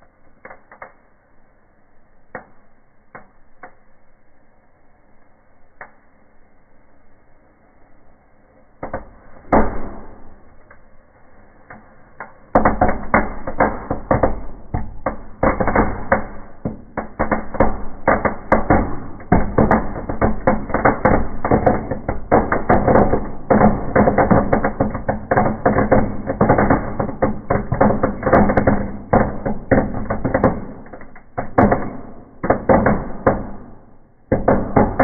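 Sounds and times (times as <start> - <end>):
sharp cracks: 0.0 - 1.3, 2.2 - 4.0, 8.8 - 35.0
fireworks crackling in a fire: 0.0 - 35.0.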